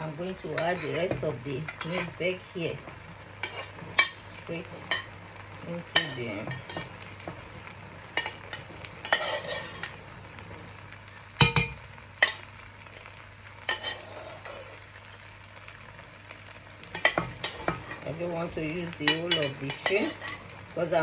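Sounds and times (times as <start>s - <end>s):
fried rice sizzling in a pot: 0.0s - 21.0s.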